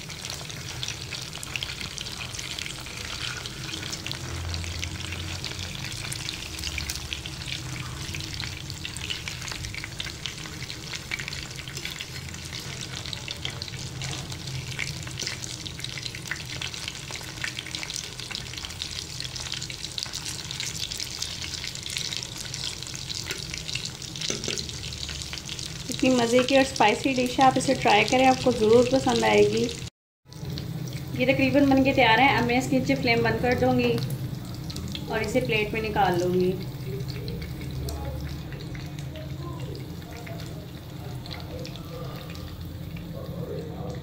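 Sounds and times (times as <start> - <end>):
patties sizzling in oil: 0.0 - 44.0.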